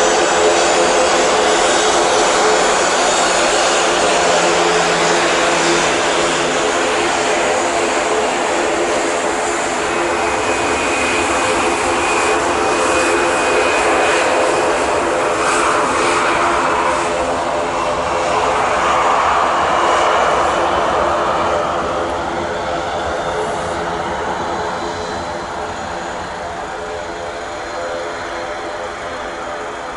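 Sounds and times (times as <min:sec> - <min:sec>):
high engine whine: 0:00.0 - 0:29.9
jet engines rushing: 0:00.0 - 0:29.9.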